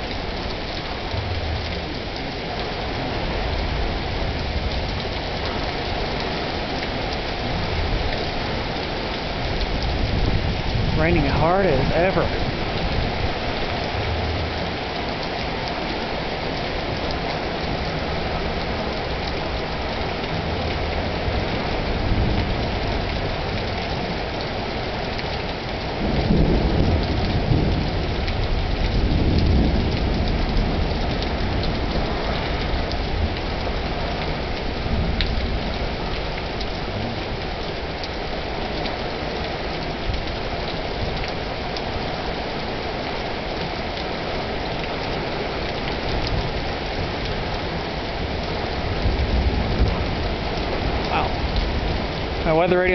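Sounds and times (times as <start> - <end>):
thunder rumbling: 0.0 - 39.4, 46.0 - 52.9
heavy rain pouring: 0.0 - 52.9.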